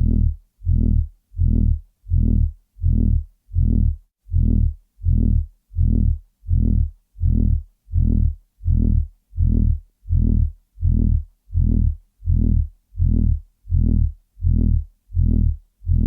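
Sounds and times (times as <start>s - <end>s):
pulsing low buzzy drone: 0.0s - 16.0s.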